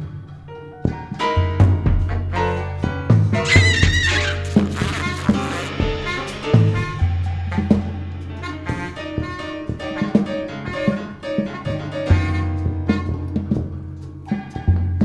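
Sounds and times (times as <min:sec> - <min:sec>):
drum strokes: 0:00.0 - 0:15.0
small jazz ensemble playing: 0:00.0 - 0:15.0.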